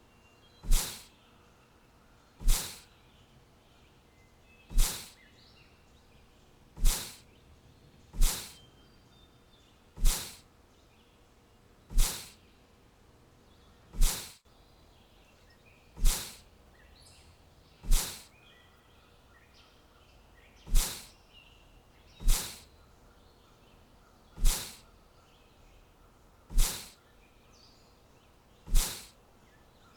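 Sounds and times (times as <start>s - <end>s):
faint bird chirps: 0.0s - 29.9s.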